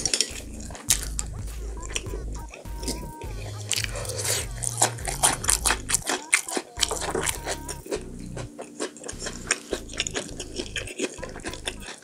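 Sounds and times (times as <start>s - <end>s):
person chewing food: 0.0s - 12.0s
soft background music: 0.0s - 12.0s.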